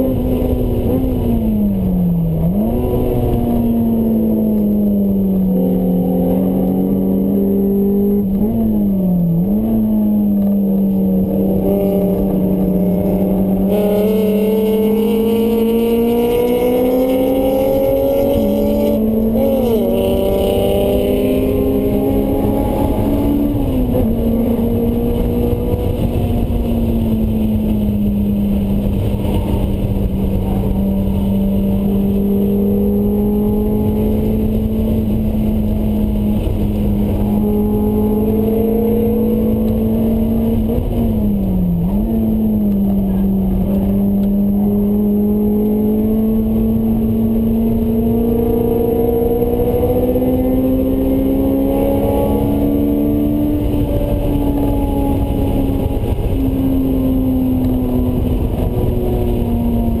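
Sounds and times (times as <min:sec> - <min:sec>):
car engine under hard load: 0:00.0 - 1:00.0
road and wind noise: 0:00.0 - 1:00.0.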